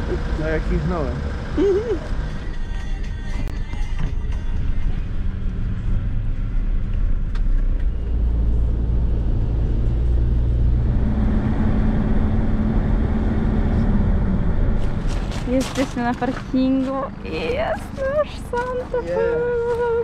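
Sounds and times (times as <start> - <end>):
bus engine drone: 0.0 - 20.0
road rumble: 0.0 - 20.0.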